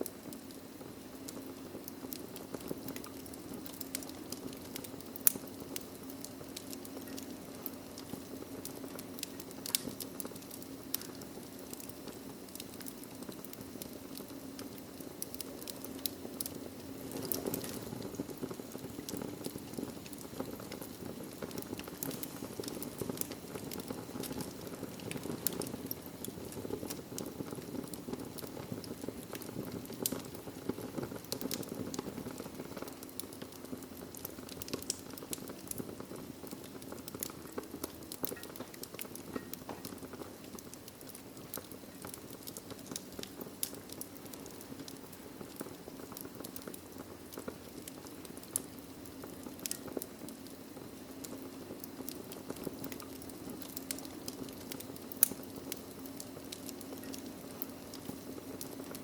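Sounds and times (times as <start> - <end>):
low rush of flames: 0.0 - 59.0
wood fire crackling and popping: 0.0 - 59.0.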